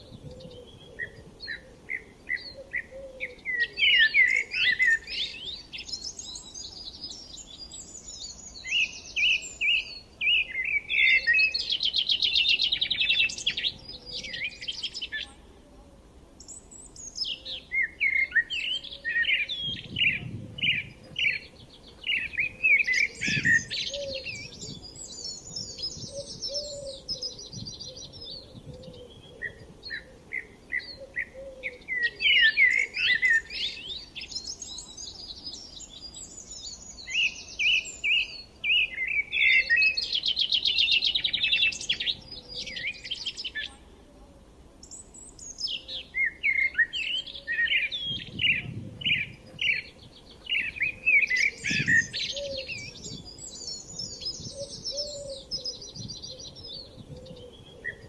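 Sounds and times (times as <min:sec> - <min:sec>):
birds chirping and trilling: 0:00.0 - 0:15.4, 0:16.4 - 0:43.9, 0:44.8 - 0:58.0.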